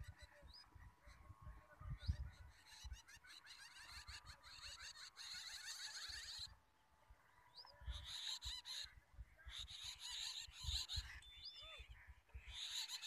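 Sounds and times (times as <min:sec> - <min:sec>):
faint bird chirping: 0:00.0 - 0:13.0.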